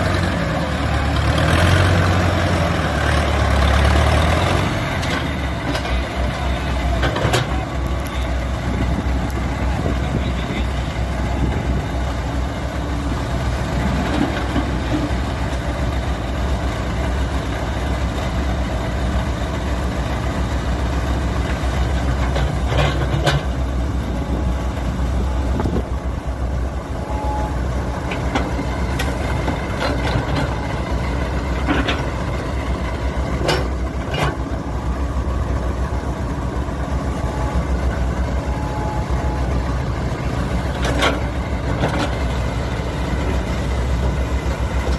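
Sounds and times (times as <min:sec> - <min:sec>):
earth-moving machine engine running: 0:00.0 - 0:44.9.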